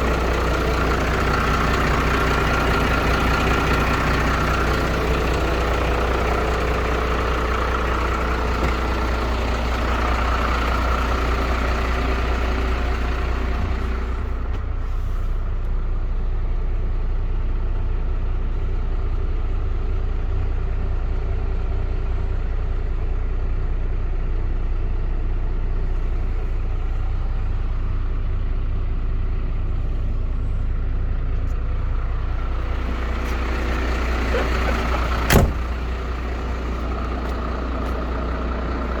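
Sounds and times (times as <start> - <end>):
truck diesel engine running: 0.0 - 39.0.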